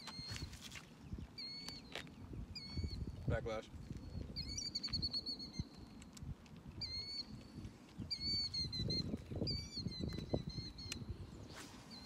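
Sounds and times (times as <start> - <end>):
bird chirping and trilling: 0.0 - 3.2, 4.0 - 6.0, 6.7 - 12.0.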